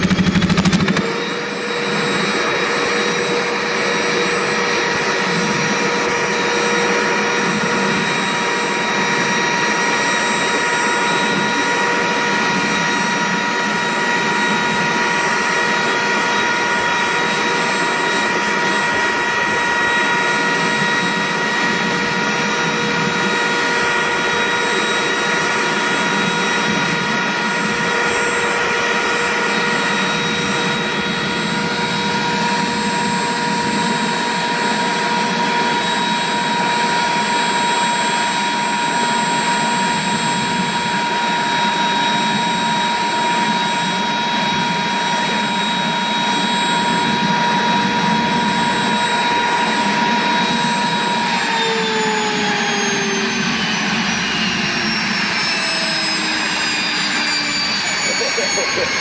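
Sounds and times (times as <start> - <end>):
gas turbine engine whine: 0.0 - 59.0.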